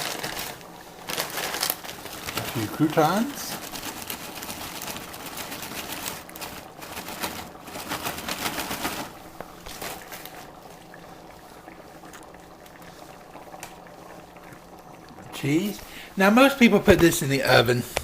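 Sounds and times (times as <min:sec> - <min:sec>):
croutons crackling: 0:00.0 - 0:17.9
faint steady hum: 0:00.0 - 0:18.0.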